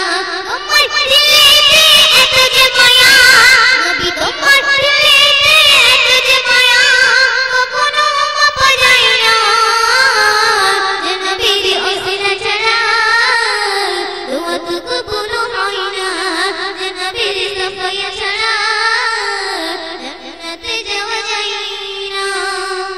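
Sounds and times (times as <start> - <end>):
girl singing into a microphone: 0.0 - 22.9.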